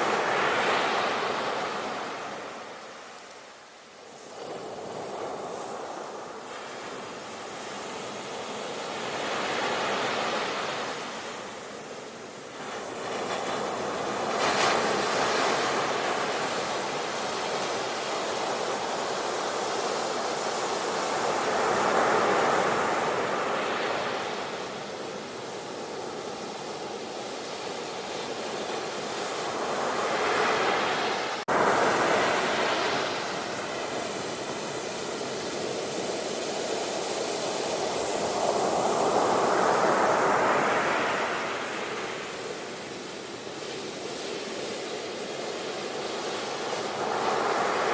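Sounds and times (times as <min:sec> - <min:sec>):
sea waves washing on shore: 0:00.0 - 0:47.9.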